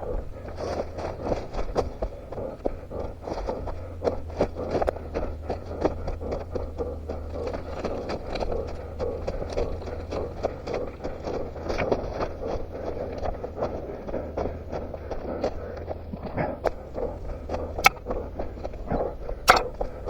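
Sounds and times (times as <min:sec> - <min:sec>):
footsteps crunching on rough ground: 0:00.0 - 0:20.0.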